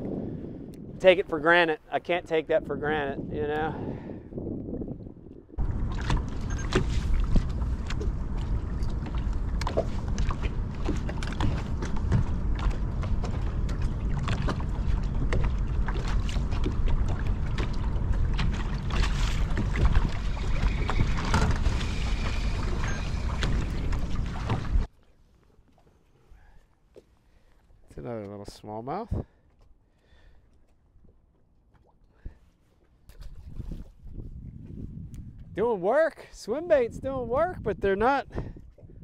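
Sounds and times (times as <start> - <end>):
wind and water rumbling: 0.0 - 39.0.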